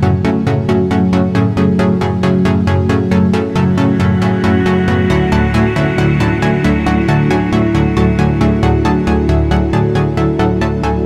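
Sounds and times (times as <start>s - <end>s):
electronic music with fast beat: 0.0s - 11.0s.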